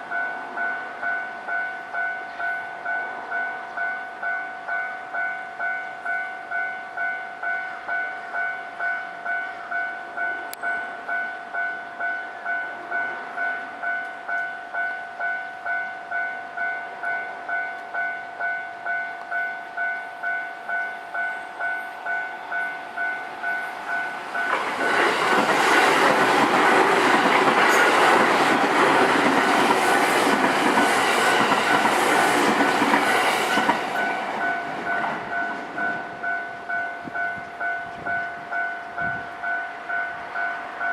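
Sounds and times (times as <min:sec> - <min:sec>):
rhythmic train wheel clicks: 0:00.0 - 0:40.9
train passing loudly: 0:00.0 - 0:40.9.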